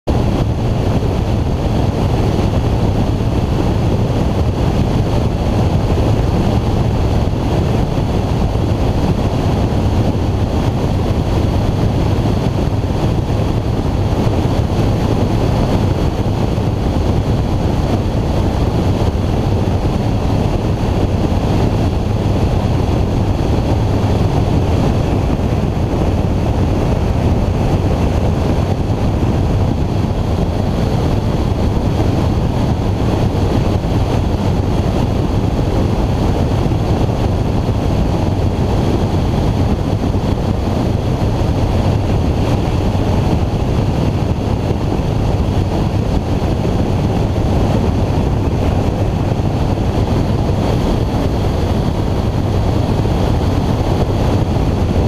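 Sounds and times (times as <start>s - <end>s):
engine and propeller drone: 0.0s - 55.0s
wind rushing over microphone: 0.0s - 55.0s.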